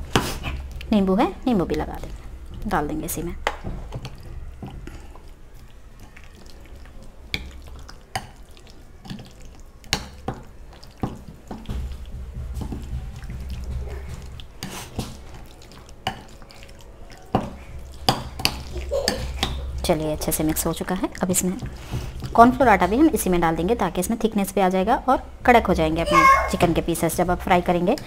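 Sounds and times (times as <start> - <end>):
wet squelching of marinade: 0.0 - 25.4.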